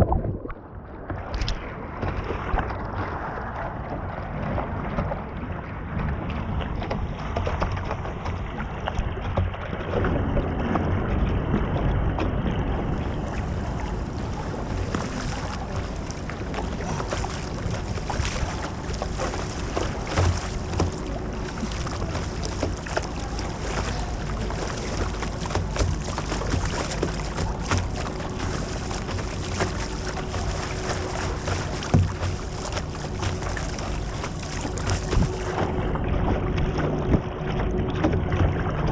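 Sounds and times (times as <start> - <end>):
splashes and knocks: 0.0 - 38.9
wind buffeting microphone: 0.0 - 38.9.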